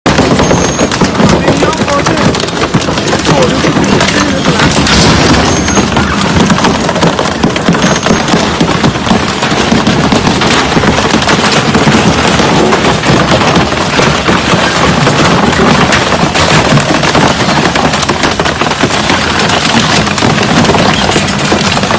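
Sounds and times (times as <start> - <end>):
machine crushing metal and plastic: 0.1 - 21.9.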